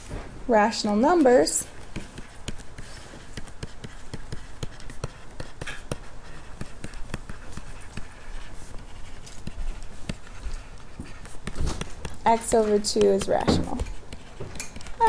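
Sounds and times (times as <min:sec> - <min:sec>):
stylus tapping on tablet screen: 0:01.0 - 0:08.2, 0:09.4 - 0:10.4, 0:11.0 - 0:14.9.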